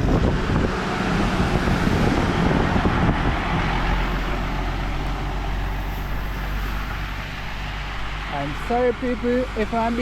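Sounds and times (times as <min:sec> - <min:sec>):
truck engine rumble: 0:00.0 - 0:10.0
tyres spraying water: 0:00.0 - 0:10.0.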